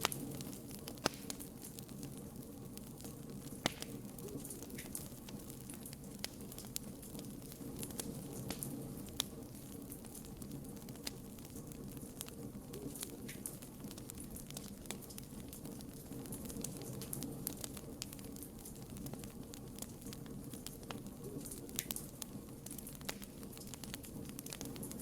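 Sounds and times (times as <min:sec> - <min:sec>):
low rumble of flames: 0:00.0 - 0:25.0
wood crackling and popping: 0:00.0 - 0:25.0.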